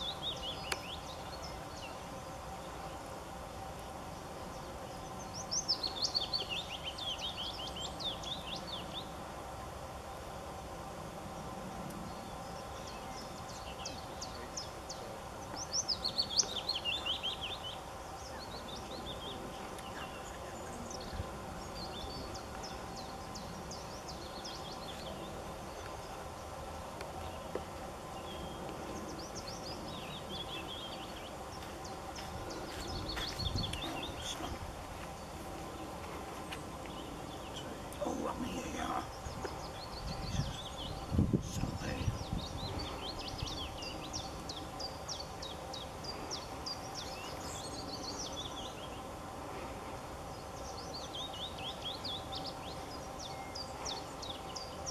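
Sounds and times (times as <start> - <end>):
outdoor background hum: 0.0 - 54.9
songbird singing: 0.0 - 54.9.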